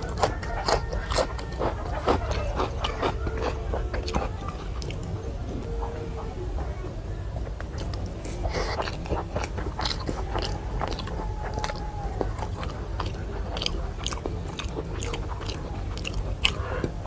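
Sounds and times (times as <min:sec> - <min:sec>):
chewing and biting food: 0:00.0 - 0:06.7, 0:07.4 - 0:17.0.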